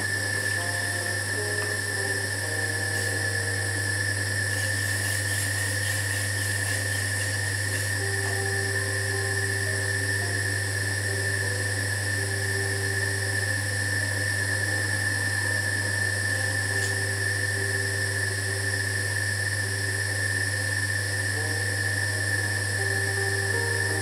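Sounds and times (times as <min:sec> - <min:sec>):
high whine: 0:00.0 - 0:24.0
potter's wheel motor hum: 0:00.0 - 0:24.0.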